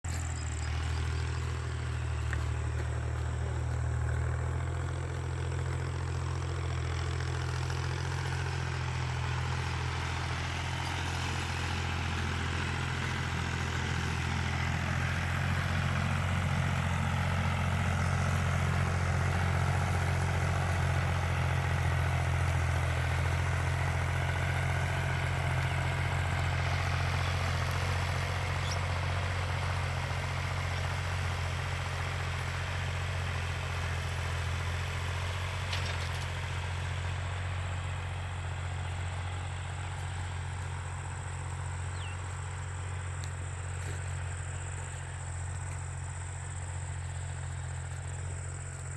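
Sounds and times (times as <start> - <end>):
tractor engine droning: 0.0 - 48.9.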